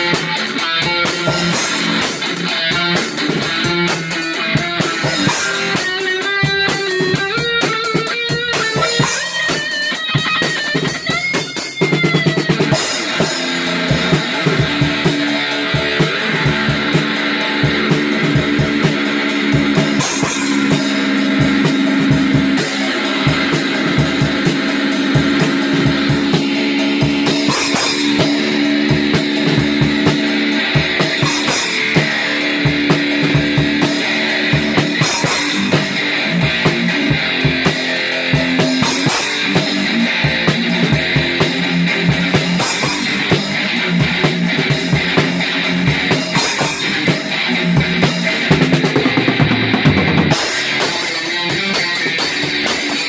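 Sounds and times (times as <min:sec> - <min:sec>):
rock music with guitar and drums: 0:00.0 - 0:53.0.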